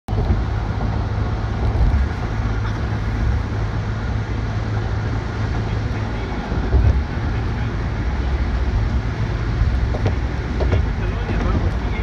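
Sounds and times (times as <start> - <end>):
vehicle road noise from inside: 0.1 - 12.0.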